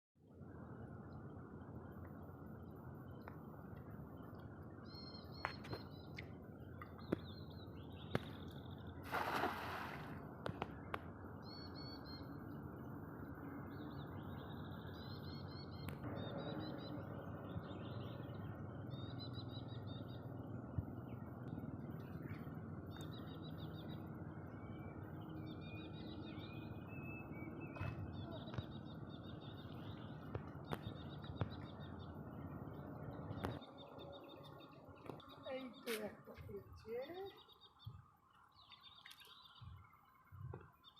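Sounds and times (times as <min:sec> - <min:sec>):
birds chirping: 0:00.4 - 0:40.9.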